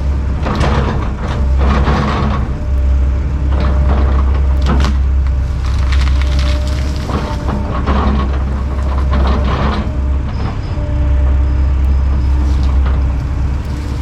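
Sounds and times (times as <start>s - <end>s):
diesel machine droning: 0.0s - 14.0s
wood crackling and scraping: 0.0s - 14.0s.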